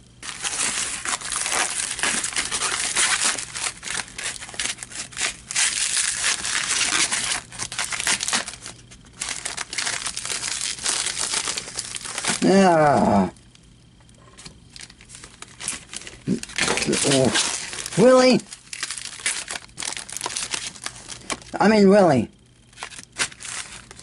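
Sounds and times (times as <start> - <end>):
package wrapping crinkling: 0.2 - 12.8, 13.4 - 21.7, 22.6 - 24.0.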